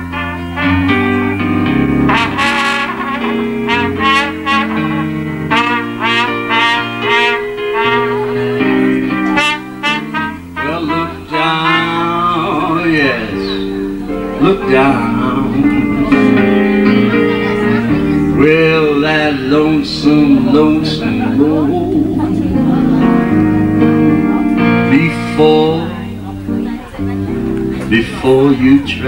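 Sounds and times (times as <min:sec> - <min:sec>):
bass notes: 0:00.0 - 0:29.0
piano chords: 0:00.0 - 0:29.0
trumpet playing slow jazz melody: 0:00.0 - 0:29.0
man singing: 0:02.1 - 0:23.3, 0:24.6 - 0:26.6, 0:27.7 - 0:29.0.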